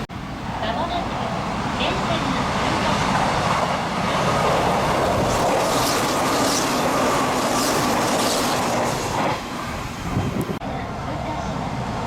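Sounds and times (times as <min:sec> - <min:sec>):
electric train passing at speed: 0:00.0 - 0:12.0.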